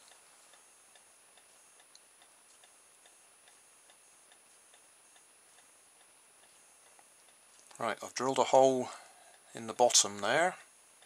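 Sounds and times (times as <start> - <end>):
faint regular ticking: 0.0 - 11.0.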